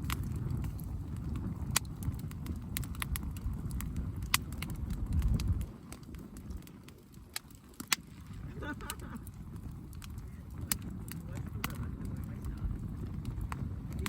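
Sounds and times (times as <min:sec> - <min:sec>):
low rumble: 0:00.0 - 0:06.7, 0:08.2 - 0:14.0
campfire crackling and popping: 0:00.0 - 0:14.0.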